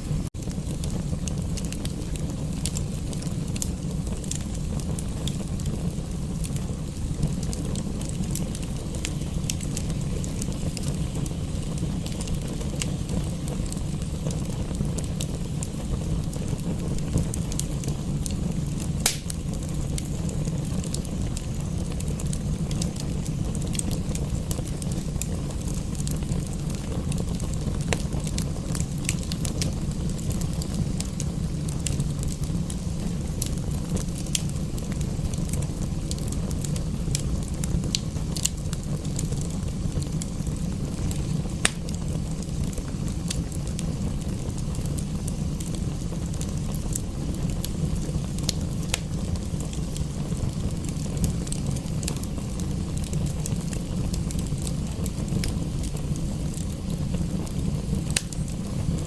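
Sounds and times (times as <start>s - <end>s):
steady rain: 0.0s - 59.0s
wood fire crackling: 0.0s - 59.0s.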